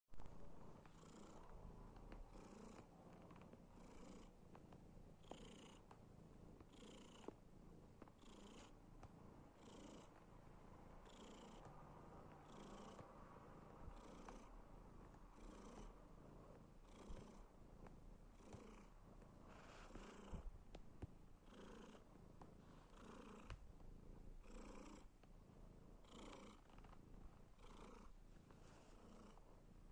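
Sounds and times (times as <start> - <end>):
cat purring: 0.2 - 29.9.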